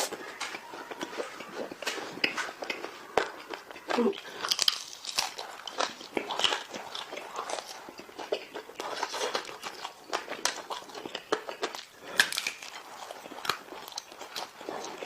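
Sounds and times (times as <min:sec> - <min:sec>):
person chewing meat: 0:00.0 - 0:15.0.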